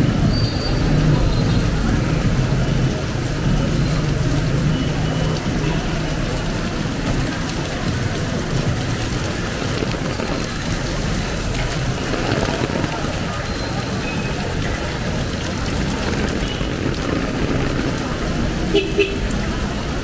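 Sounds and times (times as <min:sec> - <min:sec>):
heavy rain on a street: 0:00.0 - 0:20.0.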